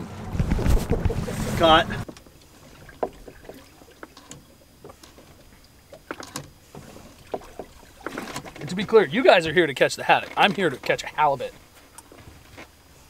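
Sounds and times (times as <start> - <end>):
low steady background noise: 1.4 - 13.0.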